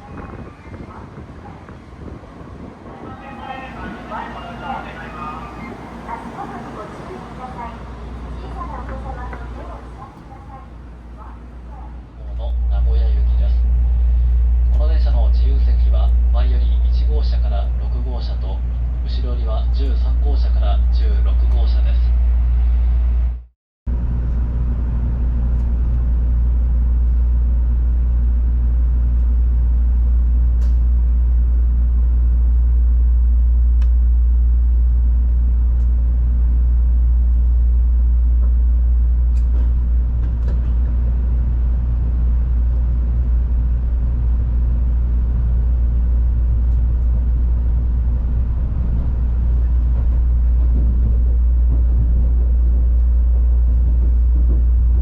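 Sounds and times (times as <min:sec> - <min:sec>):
train cabin running rumble: 0:00.0 - 0:55.0.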